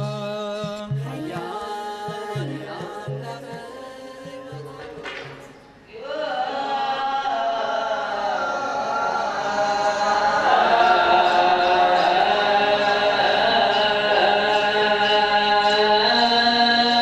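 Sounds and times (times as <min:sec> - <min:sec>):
voices singing held notes: 0:00.0 - 0:17.0.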